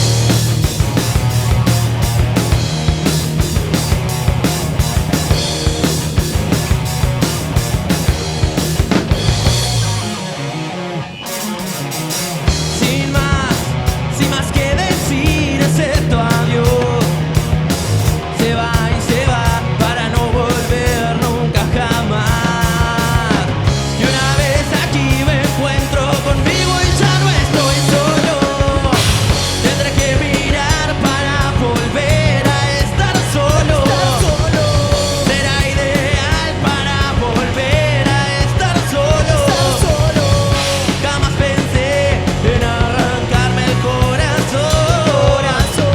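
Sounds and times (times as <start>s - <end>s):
rock band playing live: 0.0s - 45.9s.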